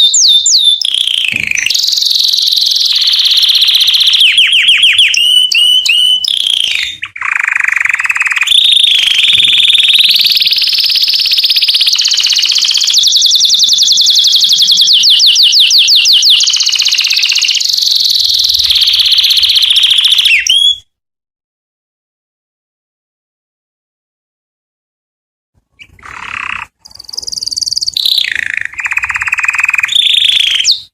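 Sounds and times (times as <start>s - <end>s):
canary singing trills: 0.0s - 20.8s, 25.7s - 30.9s.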